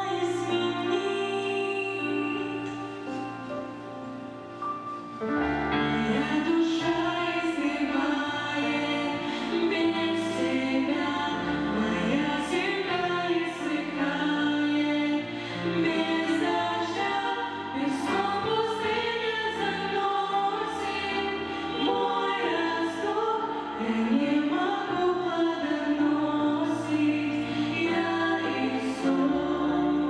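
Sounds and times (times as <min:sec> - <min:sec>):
choir singing slow song: 0:05.6 - 0:30.0.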